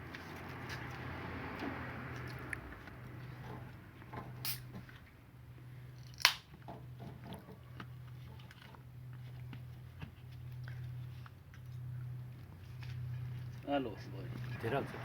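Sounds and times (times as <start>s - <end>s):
steady low hum: 2.7s - 15.0s.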